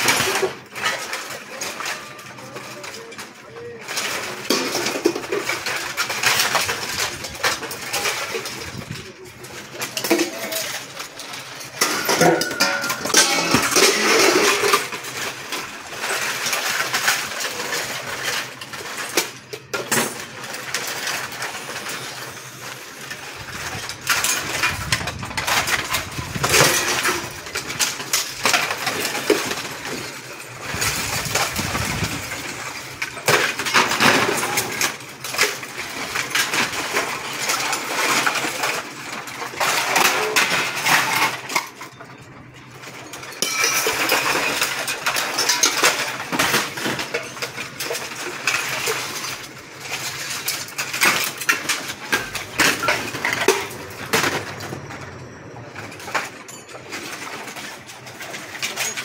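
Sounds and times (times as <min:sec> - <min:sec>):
hard objects clinking together: 0:00.0 - 0:59.0.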